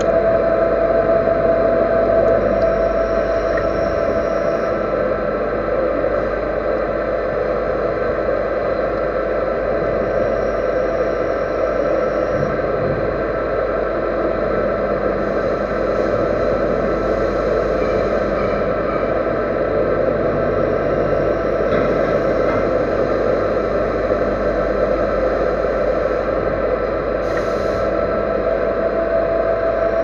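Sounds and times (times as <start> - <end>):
machine tool humming and whining: 0.0 - 30.0.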